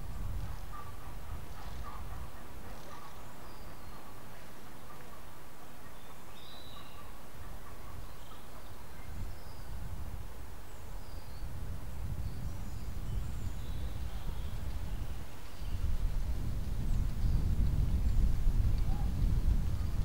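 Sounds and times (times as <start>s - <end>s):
wind rumble on microphone: 0.0s - 4.7s, 7.3s - 20.0s
small birds chirping: 0.0s - 9.8s, 10.6s - 20.0s.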